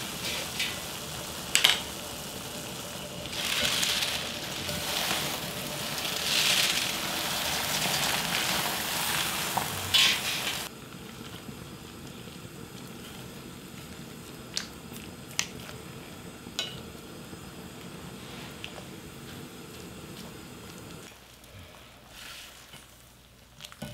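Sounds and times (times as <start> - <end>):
boiling water bubbling: 0.0 - 23.9.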